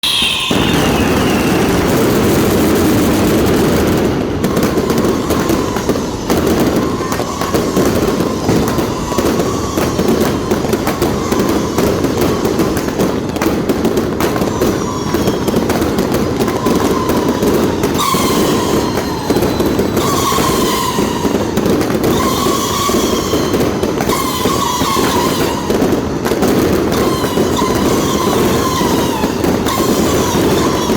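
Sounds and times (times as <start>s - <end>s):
fireworks crackling bangs: 0.0s - 30.9s
fireworks whistling: 0.0s - 30.9s.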